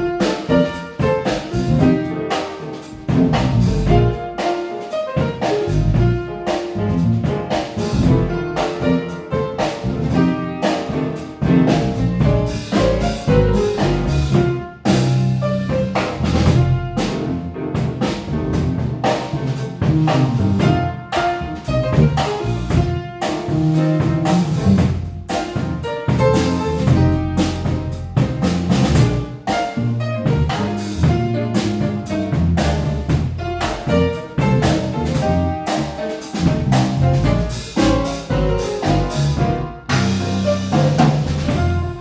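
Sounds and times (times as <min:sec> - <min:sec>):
jazz trio playing: 0:00.0 - 0:42.0.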